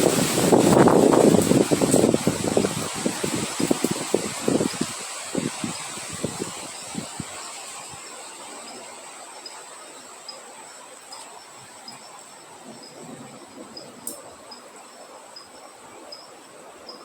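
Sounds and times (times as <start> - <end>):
cricket chirp: 0.0 - 17.0
wind hiss: 0.0 - 17.0
high-pitched insect trill: 0.1 - 17.0.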